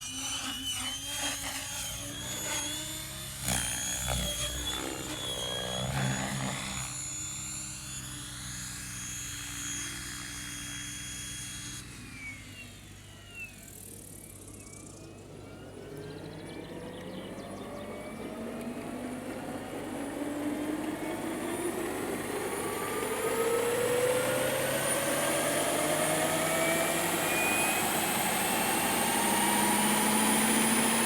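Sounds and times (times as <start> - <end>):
helicopter rotor noise: 0.0 - 31.0
helicopter whine: 0.0 - 31.0.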